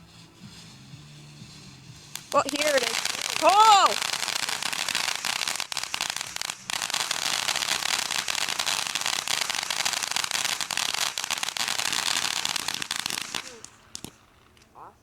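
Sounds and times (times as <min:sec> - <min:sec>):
firework crackling: 0:00.0 - 0:14.7.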